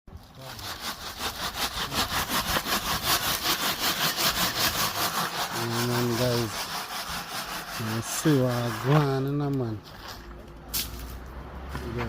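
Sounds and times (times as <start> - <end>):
hand tool scraping wood: 0.3 - 10.9.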